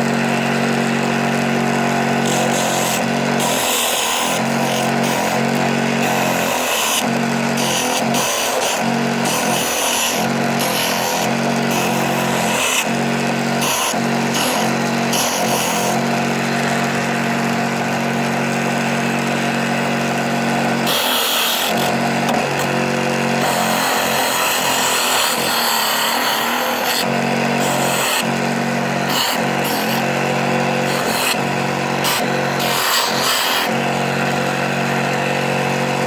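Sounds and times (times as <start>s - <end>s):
electric sander sanding wood: 0.0s - 36.0s.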